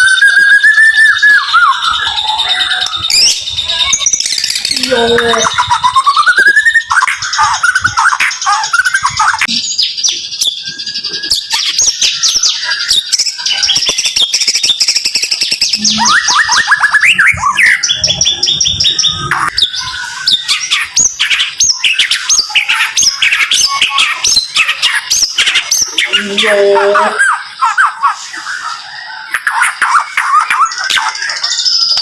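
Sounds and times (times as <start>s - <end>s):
songbird singing rapid chirps: 0.0s - 32.0s.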